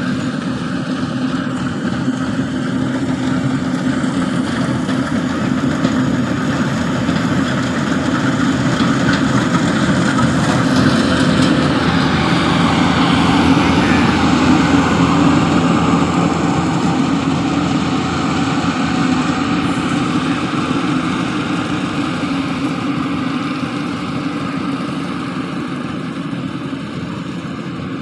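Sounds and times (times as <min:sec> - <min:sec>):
combine harvester engine running: 0:00.0 - 0:28.0.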